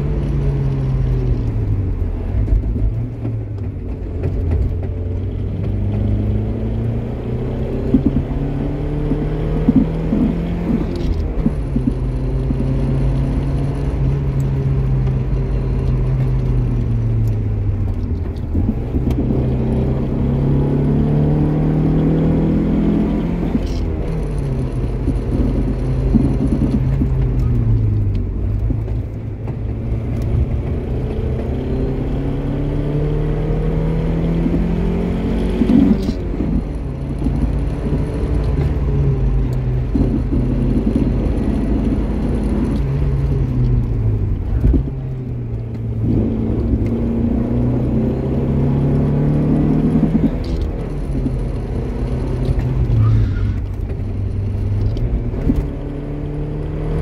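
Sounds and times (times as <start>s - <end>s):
car engine revving in cabin: 0.0s - 57.0s.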